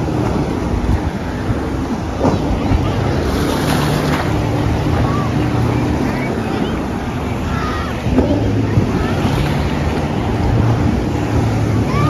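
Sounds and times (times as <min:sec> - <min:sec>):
water rushing: 0:00.0 - 0:12.0
watercraft engines droning: 0:00.0 - 0:12.0
wind buffeting microphone: 0:00.0 - 0:12.0.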